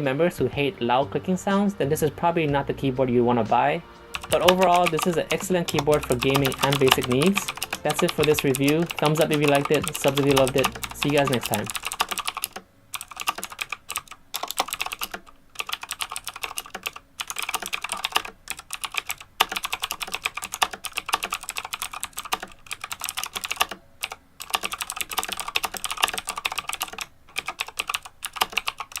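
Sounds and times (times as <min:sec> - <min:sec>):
clicky mechanical keyboard typing: 0:04.1 - 0:29.0.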